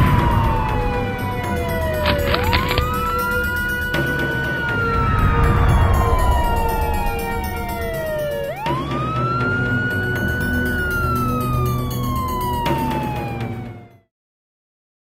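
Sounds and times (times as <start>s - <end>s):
background music: 0.0s - 14.0s
police siren wailing: 0.0s - 14.1s.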